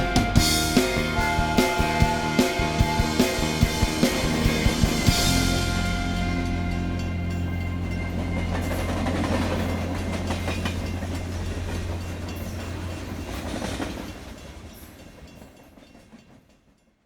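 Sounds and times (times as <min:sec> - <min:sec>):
freight train wheels clicking: 0:00.0 - 0:16.9.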